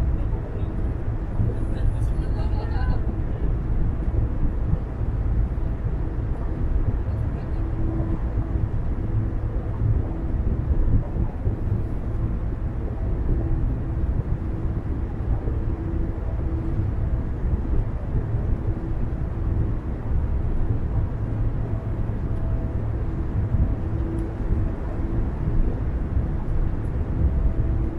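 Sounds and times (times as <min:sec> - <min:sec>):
faint hum: 0:00.0 - 0:27.9.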